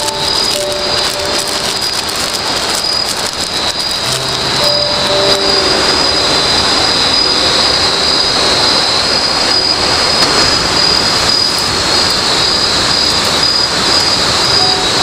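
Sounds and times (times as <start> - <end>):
night insects droning: 0.0 - 15.0
rushing hiss: 0.0 - 15.0.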